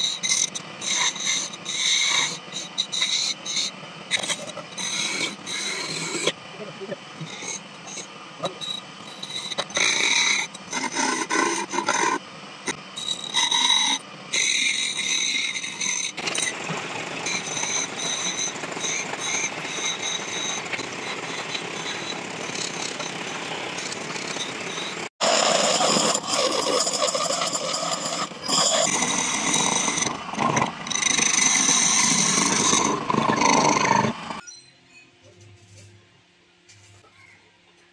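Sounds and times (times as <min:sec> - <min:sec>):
chisel scraping wood: 0:00.0 - 0:06.4, 0:07.2 - 0:34.4
wood lathe spinning: 0:00.0 - 0:34.4
thin high whine: 0:00.0 - 0:37.1.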